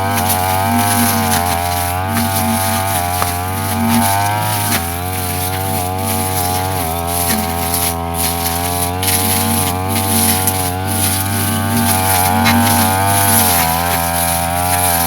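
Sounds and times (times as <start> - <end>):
brush cutter engine cutting grass: 0.0 - 15.0.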